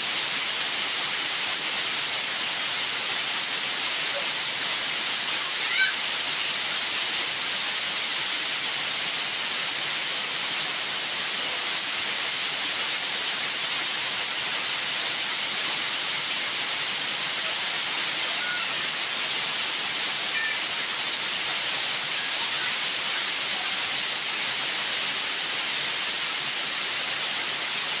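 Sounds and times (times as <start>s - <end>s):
rushing water hiss: 0.0s - 28.0s.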